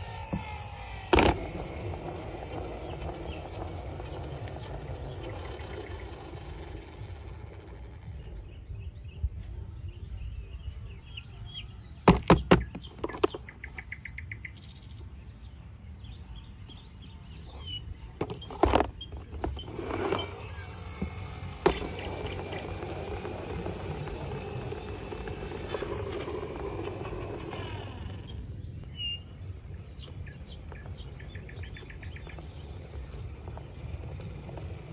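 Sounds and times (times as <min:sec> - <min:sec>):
small birds chirping: 0:00.0 - 0:34.9
low background rumble: 0:00.6 - 0:12.0, 0:15.2 - 0:34.9.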